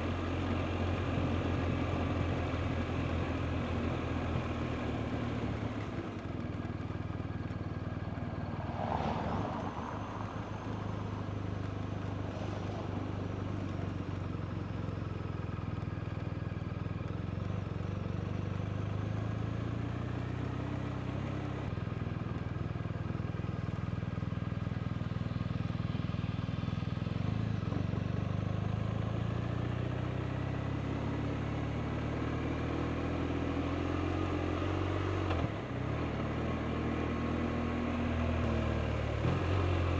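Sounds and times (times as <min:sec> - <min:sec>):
motorcycle engine running: 0:00.0 - 0:09.0, 0:12.9 - 0:39.9
wind and road noise: 0:00.0 - 0:39.9.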